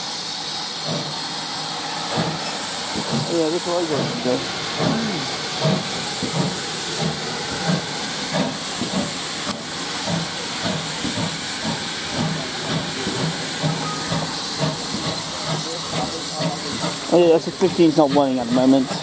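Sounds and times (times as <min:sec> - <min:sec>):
loud hiss of steam: 0:00.0 - 0:19.0.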